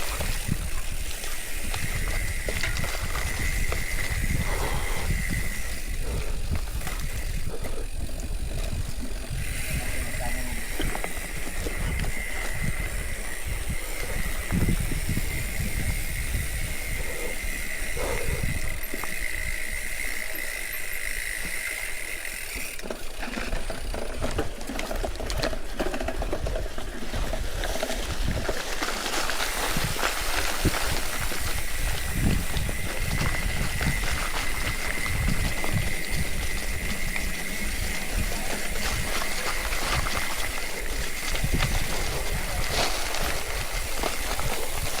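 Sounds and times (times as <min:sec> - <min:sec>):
low wind rumble: 0:00.0 - 0:20.2, 0:23.5 - 0:45.0
bike rattling and knocking: 0:00.0 - 0:45.0.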